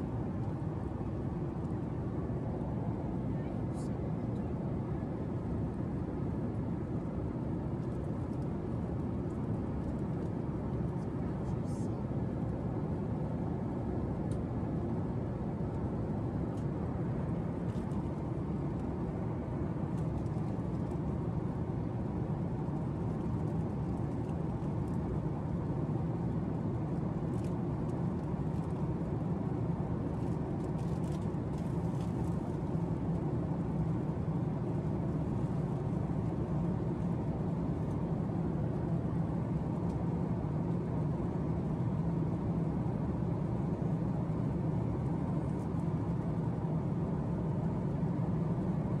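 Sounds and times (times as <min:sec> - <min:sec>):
airplane cabin drone: 0:00.0 - 0:49.0.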